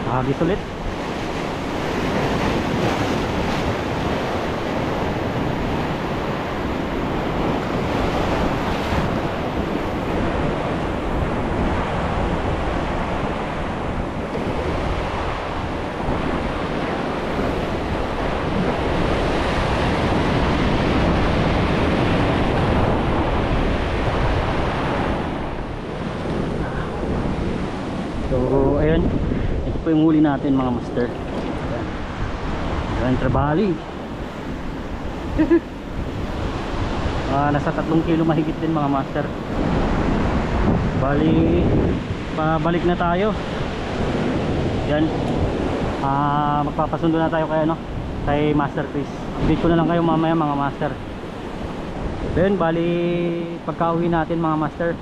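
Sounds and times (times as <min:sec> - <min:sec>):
surf breaking on rocks: 0:00.0 - 0:55.0
wind buffeting microphone: 0:00.0 - 0:55.0.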